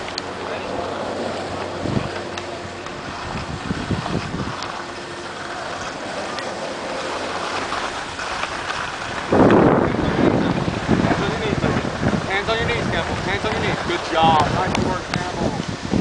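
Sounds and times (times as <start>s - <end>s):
skis sliding on snow: 0.0s - 16.0s
wind buffeting microphone: 0.0s - 16.0s.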